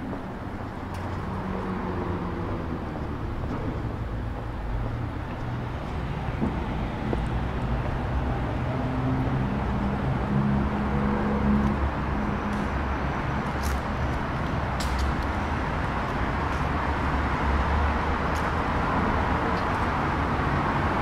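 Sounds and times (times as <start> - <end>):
street noise: 0.0 - 21.0
vehicle engine hum: 0.0 - 21.0.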